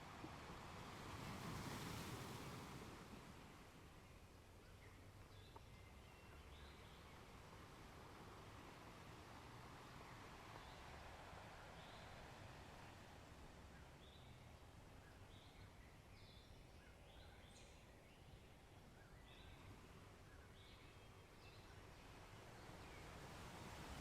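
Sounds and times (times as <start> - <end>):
background noise: 0.0 - 24.0.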